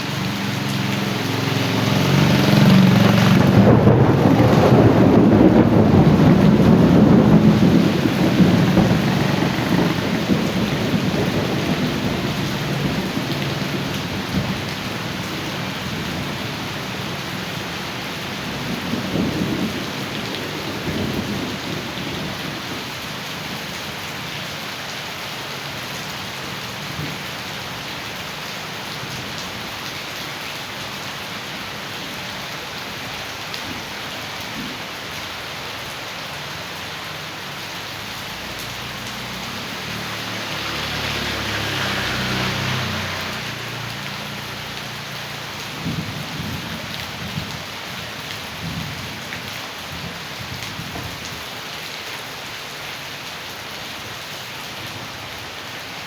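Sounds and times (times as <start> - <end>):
heavy rain: 0.0 - 56.0
rainwater runoff rushing: 0.0 - 56.0.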